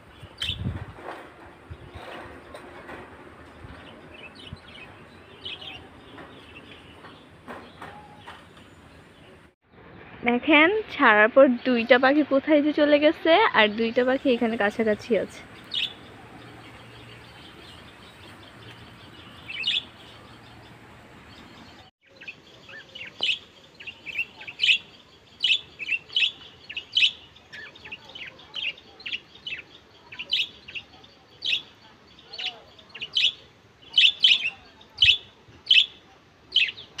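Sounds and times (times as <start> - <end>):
lovebirds chirping: 0.0 - 1.0, 1.6 - 9.6, 12.7 - 37.0.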